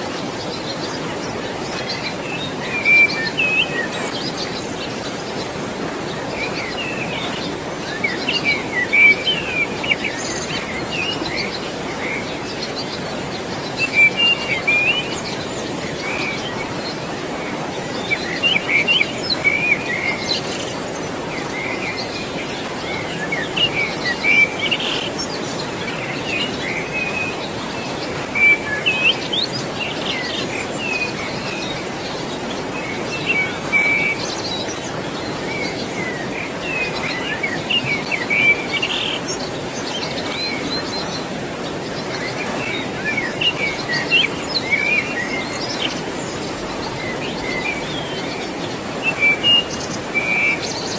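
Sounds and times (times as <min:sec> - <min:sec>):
flowing water: 0:00.0 - 0:50.9
small birds chirping: 0:00.0 - 0:50.9.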